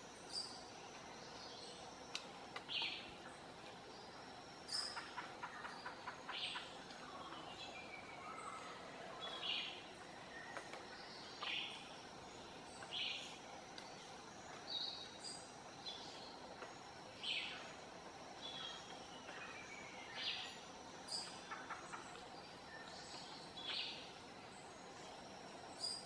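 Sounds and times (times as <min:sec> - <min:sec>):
steady background hiss: 0:00.0 - 0:26.0
forest birds calling: 0:00.3 - 0:17.7, 0:18.4 - 0:26.0.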